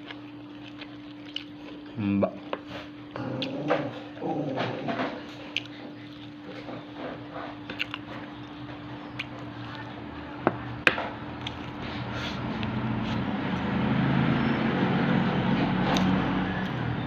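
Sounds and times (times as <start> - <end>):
person chewing food: 0.0 - 10.1, 11.1 - 14.1, 15.7 - 16.8.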